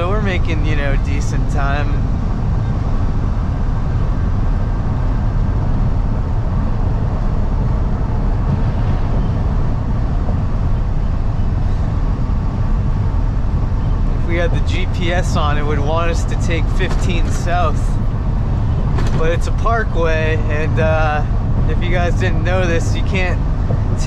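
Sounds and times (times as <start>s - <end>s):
truck road noise from inside cab: 0.0s - 24.0s.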